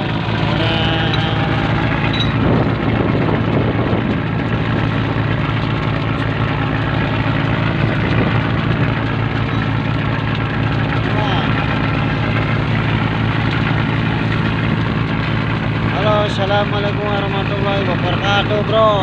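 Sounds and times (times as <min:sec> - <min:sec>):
boat engine running steadily: 0:00.0 - 0:19.0.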